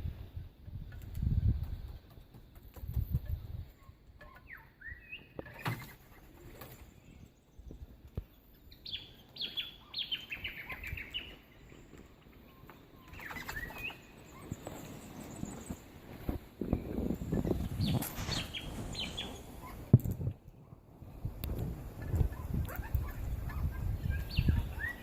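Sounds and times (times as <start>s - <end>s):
small birds chirping: 0.8s - 25.0s.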